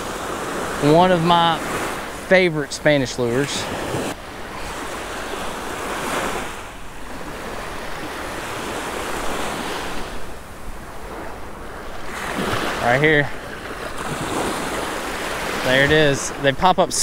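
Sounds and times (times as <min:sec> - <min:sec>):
surf waves breaking: 0:00.0 - 0:17.0.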